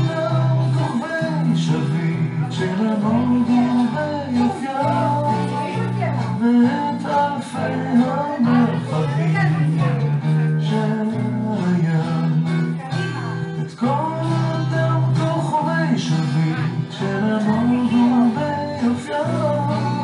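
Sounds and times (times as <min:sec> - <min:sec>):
guitar accompaniment: 0:00.0 - 0:20.0
person singing: 0:00.0 - 0:20.0.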